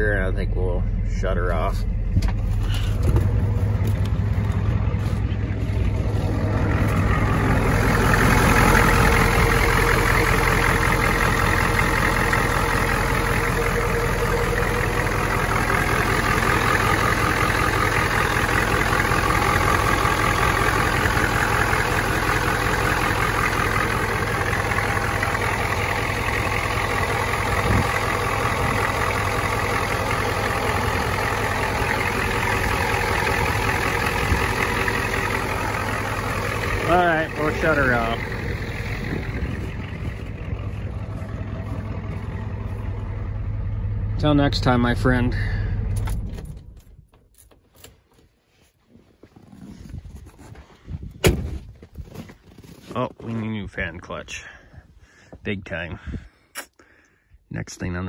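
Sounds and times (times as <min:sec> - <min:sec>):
diesel engine idling: 0:00.0 - 0:47.1.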